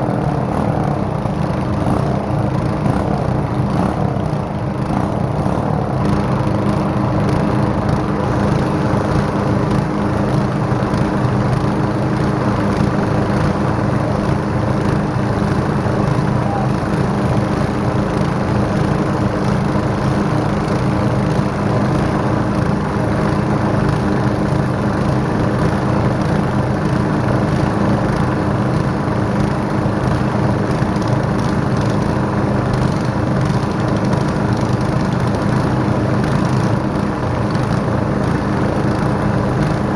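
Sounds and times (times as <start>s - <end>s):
small gasoline engines droning: 0.0s - 39.9s.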